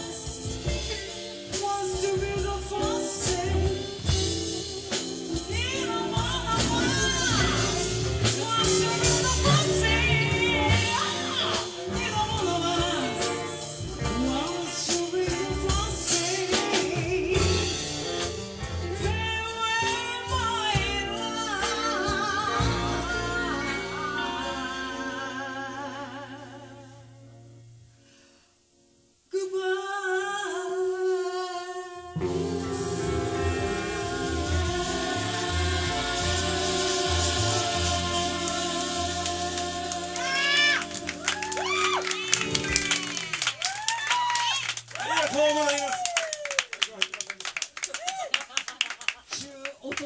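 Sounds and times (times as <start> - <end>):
live soul band with singing: 0.0 - 27.2, 29.3 - 46.5.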